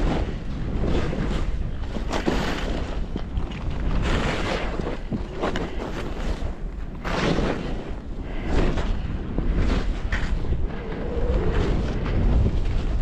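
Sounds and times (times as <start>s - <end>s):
skis scraping over snow: 0.0s - 13.0s
wind rumbling on microphone: 0.0s - 13.0s.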